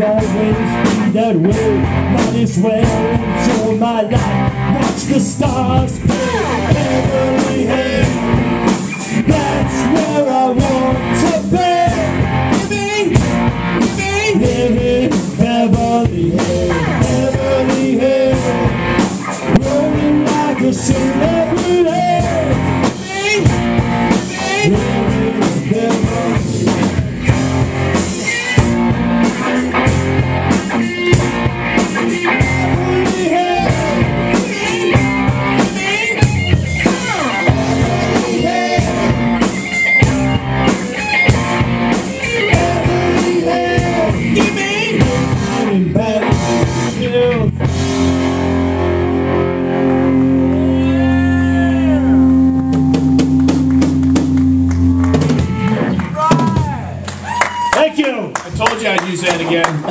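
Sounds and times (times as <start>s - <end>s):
lead electric guitar bending notes: 0.0s - 57.0s
live rock band playing: 0.0s - 59.9s.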